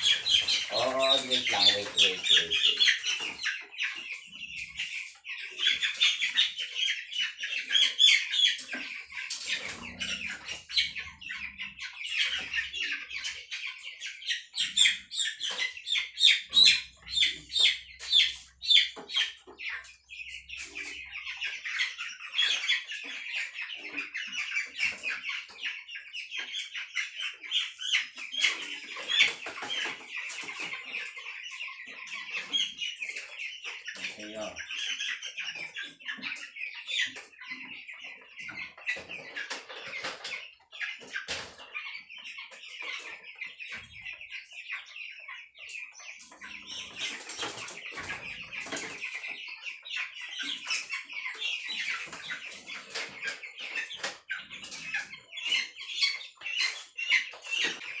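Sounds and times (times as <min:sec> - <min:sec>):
chickens peeping and clucking: 0:00.0 - 0:58.0.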